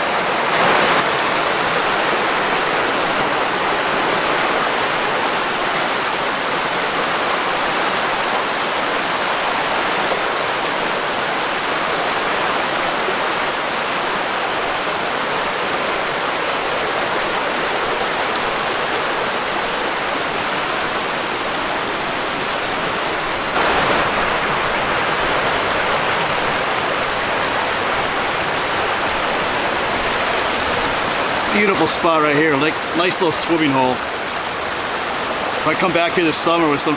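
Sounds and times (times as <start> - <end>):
creek rushing over rapids: 0.0 - 36.9.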